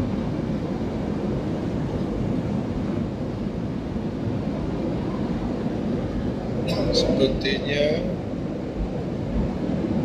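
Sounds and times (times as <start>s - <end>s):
airliner cabin roar: 0.0s - 10.0s.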